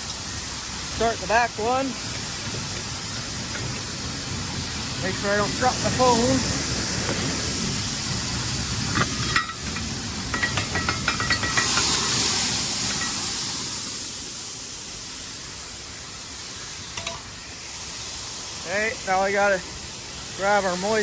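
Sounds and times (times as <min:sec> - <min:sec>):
grain pouring with a hiss: 0:00.0 - 0:21.0.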